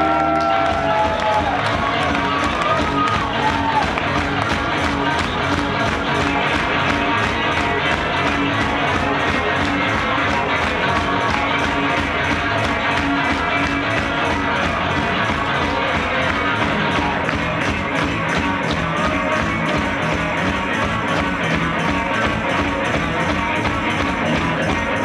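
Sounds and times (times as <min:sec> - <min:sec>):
electric guitar: 0:00.0 - 0:25.0
live rock band playing: 0:00.0 - 0:25.0
fast drum beat: 0:00.4 - 0:25.0.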